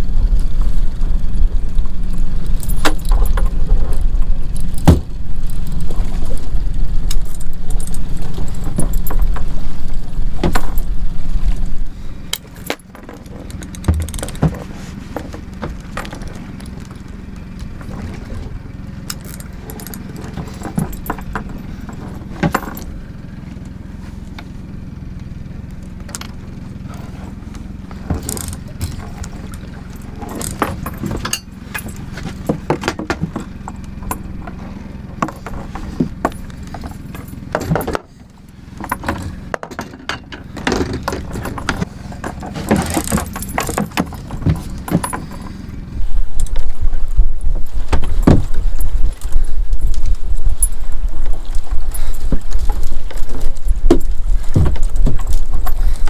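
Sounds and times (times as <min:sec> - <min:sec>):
boat low rumble: 0:00.0 - 0:56.0
metallic rattles of tackle: 0:01.6 - 0:23.7, 0:24.6 - 0:56.0.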